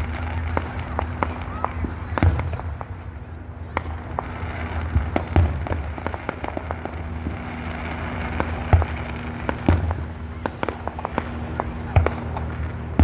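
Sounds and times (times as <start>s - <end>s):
fireworks booms: 0.0s - 13.0s
fireworks crackling pops: 0.0s - 13.0s.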